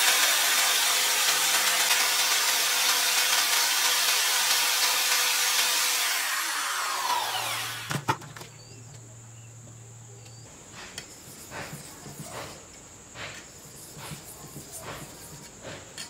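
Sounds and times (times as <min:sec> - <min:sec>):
rotary tool grinding steel: 0:00.0 - 0:08.0, 0:11.0 - 0:16.0.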